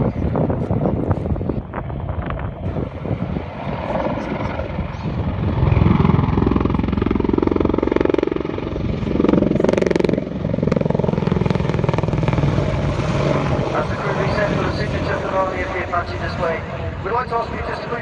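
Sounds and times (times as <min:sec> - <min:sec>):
helicopter engine noise: 0:00.0 - 0:18.0
helicopter rotor blades beating: 0:00.0 - 0:18.0.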